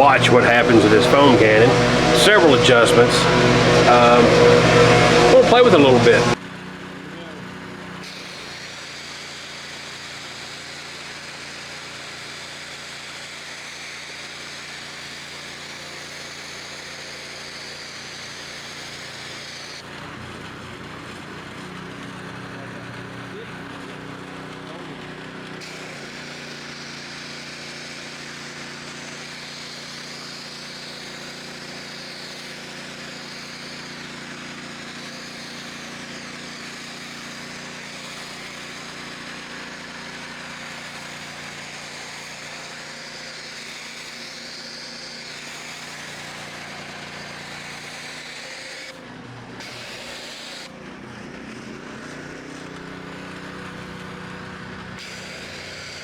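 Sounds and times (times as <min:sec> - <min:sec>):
foam spray hissing: 0:00.0 - 0:06.4, 0:07.2 - 0:20.1, 0:21.1 - 0:56.0
pressure washer engine running: 0:00.0 - 0:56.0.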